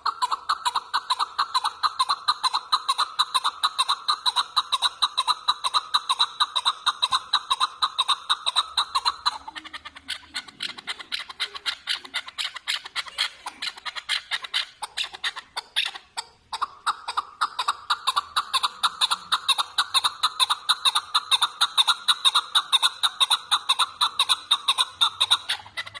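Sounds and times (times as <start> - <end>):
partridge clucking calls: 0.0 - 26.0.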